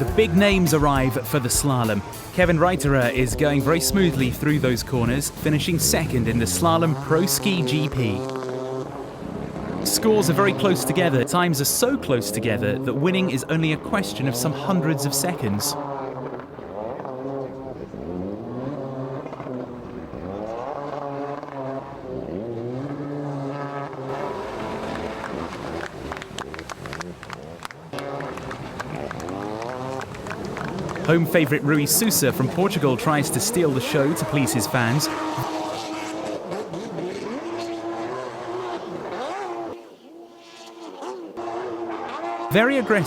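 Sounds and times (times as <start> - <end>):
jet ski engine revving: 0.0 - 43.0.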